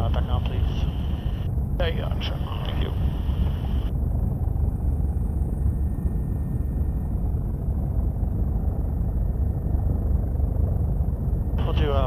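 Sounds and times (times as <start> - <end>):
helicopter drone from inside cabin: 0.0 - 12.0.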